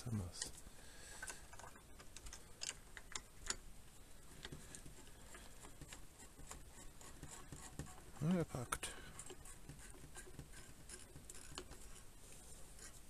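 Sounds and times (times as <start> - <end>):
light clicks and taps of parts: 0.0 - 12.1.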